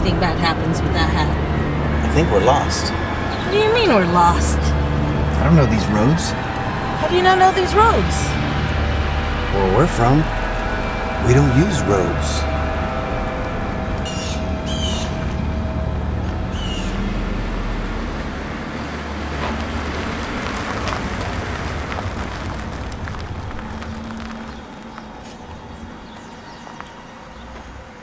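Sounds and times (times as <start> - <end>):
truck engine running: 0.0 - 28.0
tyre and road noise: 0.0 - 28.0.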